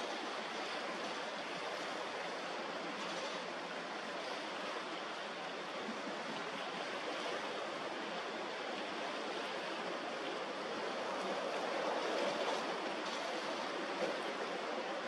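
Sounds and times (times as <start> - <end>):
water rushing along ship hull: 0.0 - 15.0.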